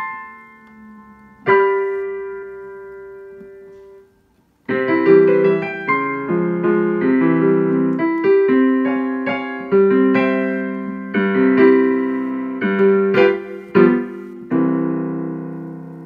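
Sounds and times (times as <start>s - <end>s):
digital piano chords: 0.0s - 16.0s.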